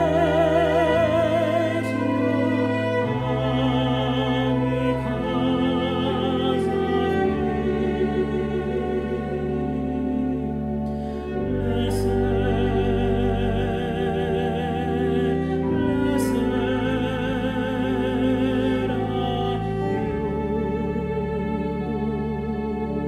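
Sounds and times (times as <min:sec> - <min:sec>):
bowed cello: 0:00.0 - 0:23.0
church organ chords: 0:00.0 - 0:23.0.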